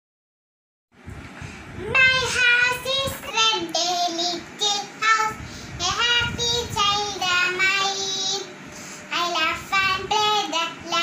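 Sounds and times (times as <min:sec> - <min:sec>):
girl singing: 0:01.8 - 0:11.0.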